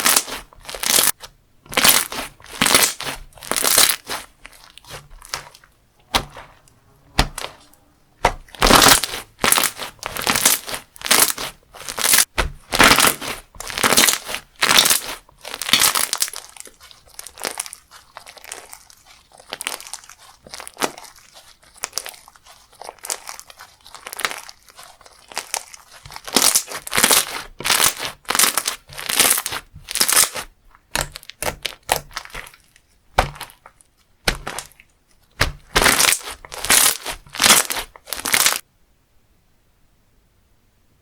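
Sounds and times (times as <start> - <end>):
slime crackling and popping: 0.0 - 6.6, 7.2 - 38.6.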